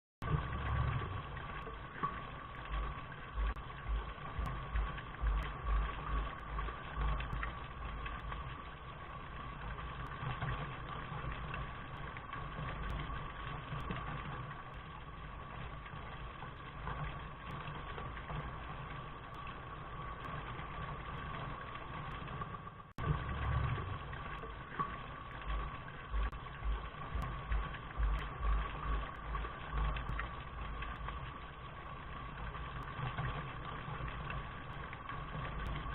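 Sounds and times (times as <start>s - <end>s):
uneven low rumble: 0.2s - 35.9s.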